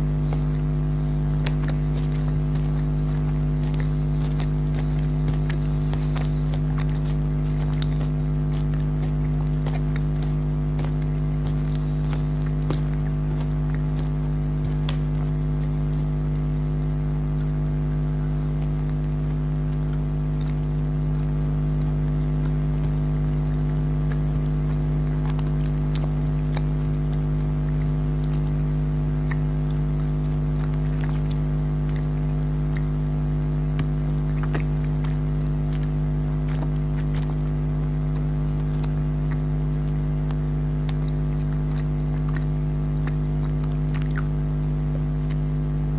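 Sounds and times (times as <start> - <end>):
jelly candy being chewed: 0.0 - 45.9
low hum with held tones: 0.0 - 45.9.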